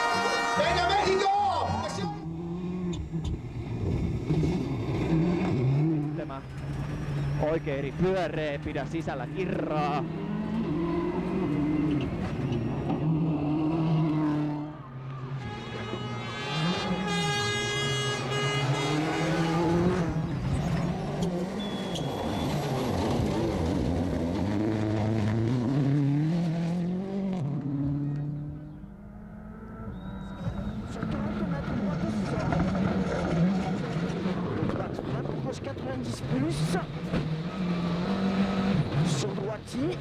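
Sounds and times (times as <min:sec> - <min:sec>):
turbocharged car engine revving: 0:00.0 - 0:40.0.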